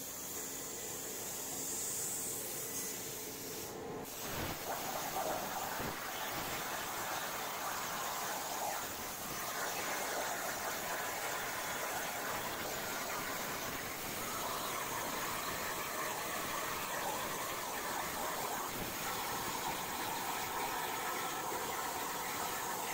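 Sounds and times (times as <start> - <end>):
plasma torch hissing: 0.1 - 22.8.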